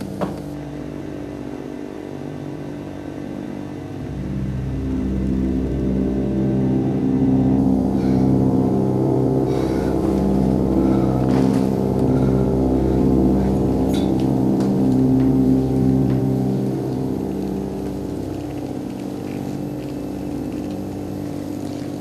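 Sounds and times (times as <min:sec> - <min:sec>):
droning horror score: 0:00.0 - 0:22.0
gong-like ringing: 0:04.0 - 0:21.6.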